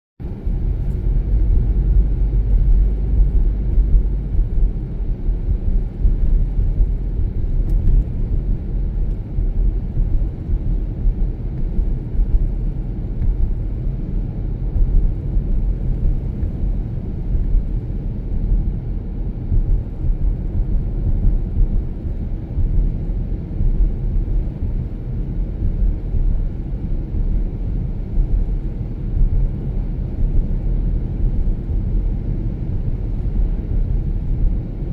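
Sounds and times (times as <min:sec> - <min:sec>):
car driving rumble: 0:00.2 - 0:34.9.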